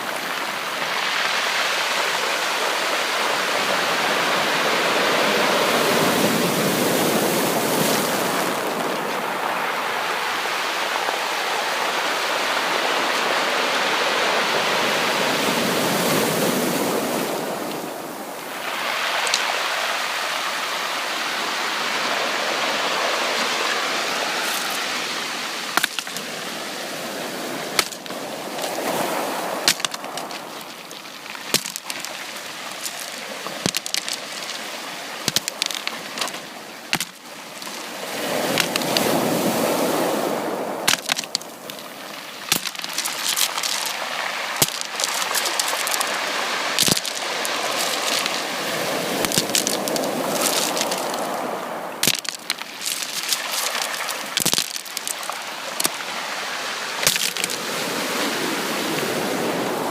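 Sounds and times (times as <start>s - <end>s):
sea surf washing on shore: 0.0s - 59.9s.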